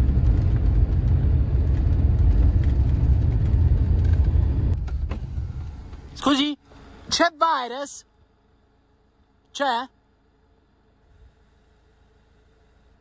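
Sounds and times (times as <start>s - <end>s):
van engine and road rumble: 0.0s - 13.0s.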